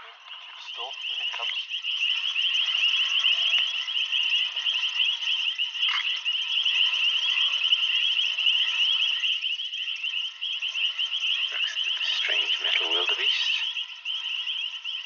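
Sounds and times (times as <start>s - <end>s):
night chorus of frogs and insects: 0.0s - 15.0s.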